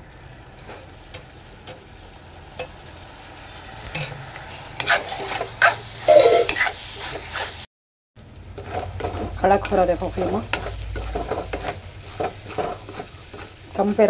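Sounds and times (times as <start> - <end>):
meat sizzling in hot oil: 0.0 - 14.0
steel spoon scraping a pan: 0.6 - 7.7, 8.5 - 14.0.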